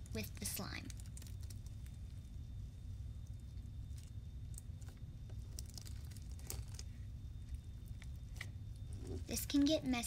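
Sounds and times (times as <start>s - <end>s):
slime crackling and popping: 0.0s - 8.9s
steady low hum: 0.0s - 10.0s.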